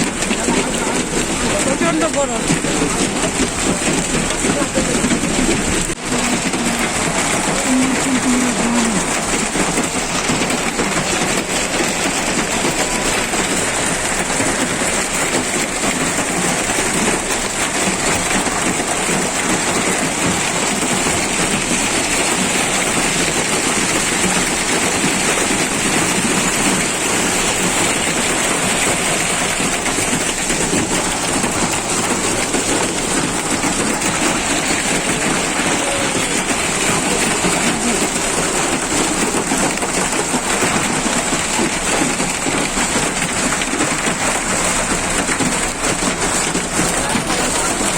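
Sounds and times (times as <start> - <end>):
hail and rain clattering: 0.0 - 47.9.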